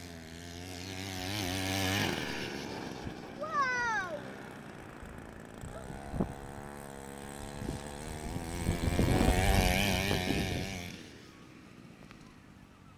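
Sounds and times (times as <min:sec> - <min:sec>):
small two-stroke engine running: 0:00.0 - 0:12.9.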